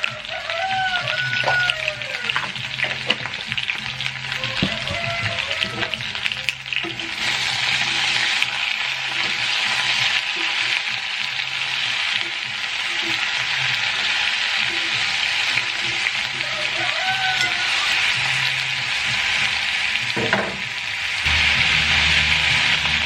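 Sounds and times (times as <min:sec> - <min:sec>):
potatoes sizzling in a pot: 0:00.0 - 0:23.0.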